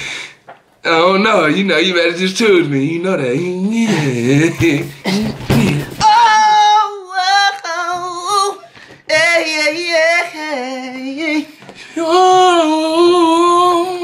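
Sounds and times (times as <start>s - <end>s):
man singing unaccompanied: 0.8s - 14.0s.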